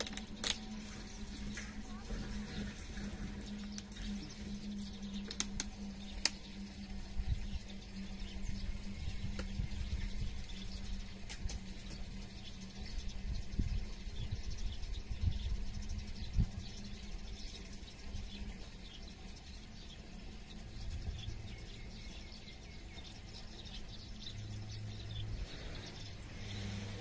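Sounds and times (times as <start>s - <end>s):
low steady rumble: 0.0s - 27.0s
small birds chirping: 0.0s - 27.0s.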